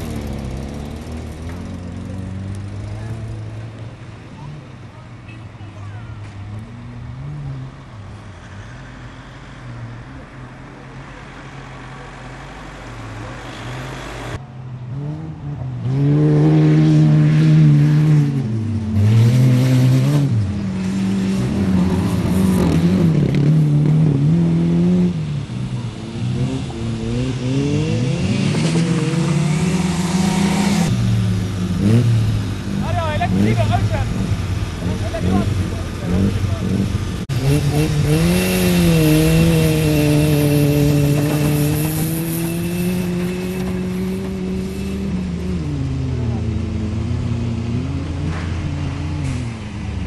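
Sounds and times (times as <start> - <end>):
racing car engines revving: 0.0 - 50.0.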